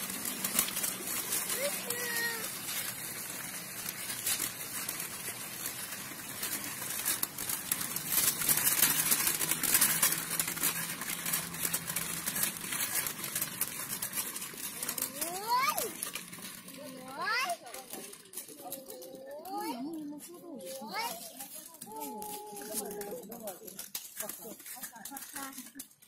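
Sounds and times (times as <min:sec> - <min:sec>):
plastic wheels rattling on paving: 0:00.0 - 0:26.0.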